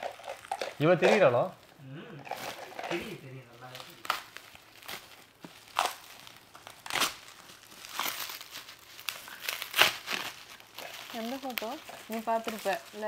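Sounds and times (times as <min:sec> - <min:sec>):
wrapping paper crinkling: 0:00.0 - 0:13.0.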